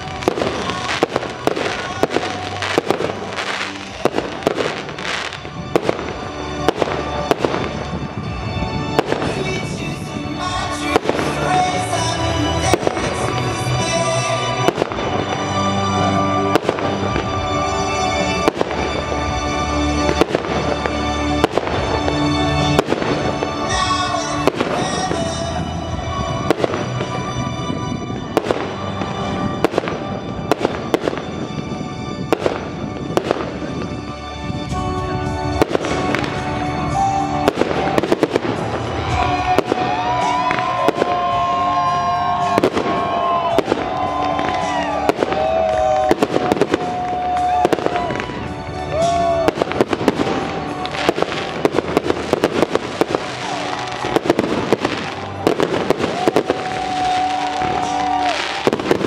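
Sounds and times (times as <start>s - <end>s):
music: 0.0s - 59.0s.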